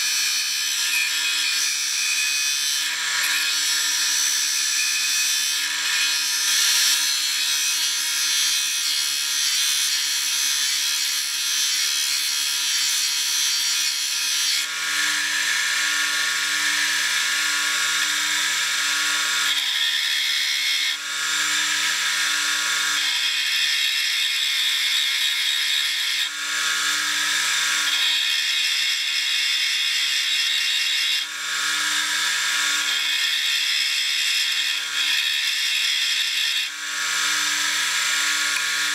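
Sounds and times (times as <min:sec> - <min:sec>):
sharpener motor running: 0:00.0 - 0:38.9
tool grinding hiss: 0:00.0 - 0:38.9.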